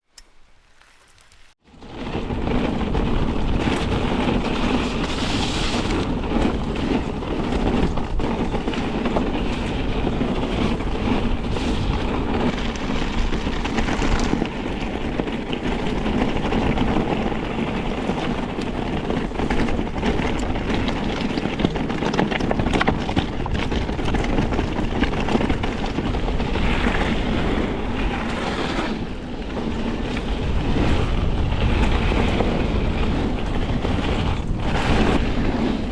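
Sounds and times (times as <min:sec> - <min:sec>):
bike tyres rumbling over dirt: 0:00.0 - 0:35.9
bike frame and chain rattling: 0:00.1 - 0:35.9.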